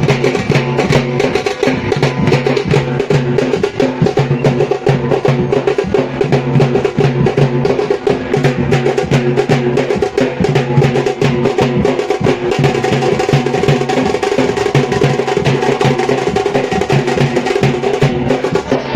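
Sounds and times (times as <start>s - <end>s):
music with fast drumming: 0.0s - 18.9s.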